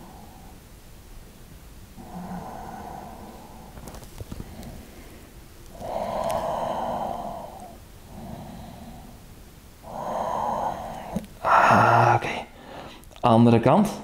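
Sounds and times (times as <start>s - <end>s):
man breathing slowly: 0.0s - 0.7s, 2.0s - 13.1s.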